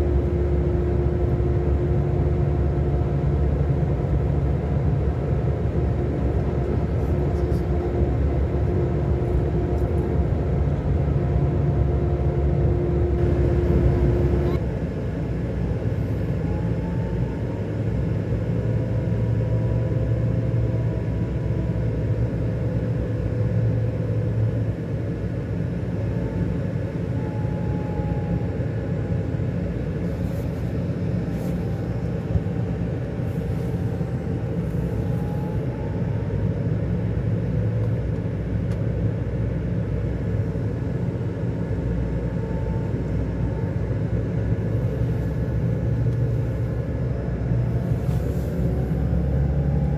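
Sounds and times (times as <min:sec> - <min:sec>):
faint whine: 0:00.0 - 0:18.8, 0:25.5 - 0:49.9
bus engine droning: 0:00.0 - 0:49.9.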